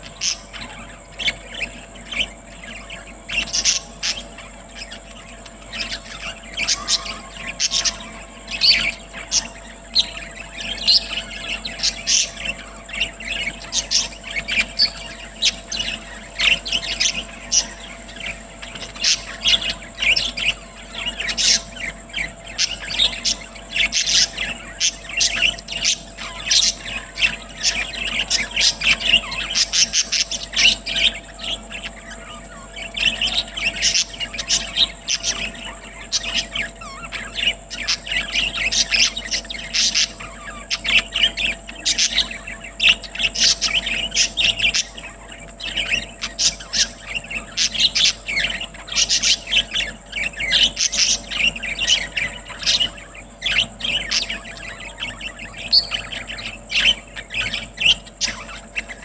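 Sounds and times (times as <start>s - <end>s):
budgerigars chattering and chirping: 0.0s - 59.0s.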